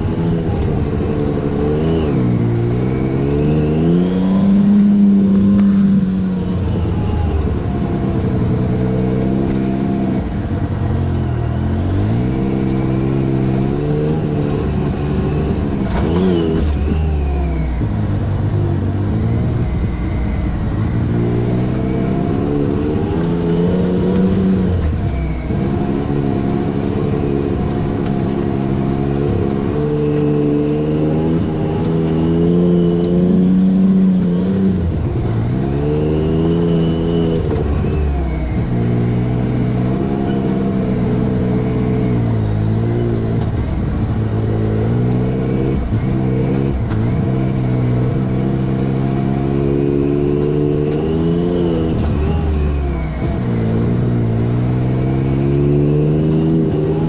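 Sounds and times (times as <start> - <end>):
utv engine revving: 0.0 - 57.0.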